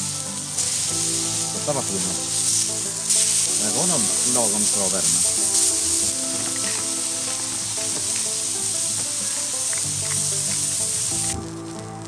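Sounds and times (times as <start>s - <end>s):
background music with held chords: 0.0s - 12.0s
burger patties sizzling: 0.0s - 12.0s.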